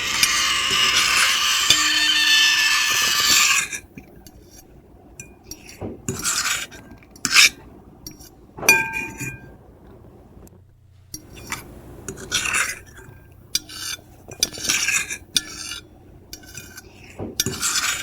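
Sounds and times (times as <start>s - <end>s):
fork and knife scraping plate: 0.0s - 9.4s, 11.2s - 18.0s.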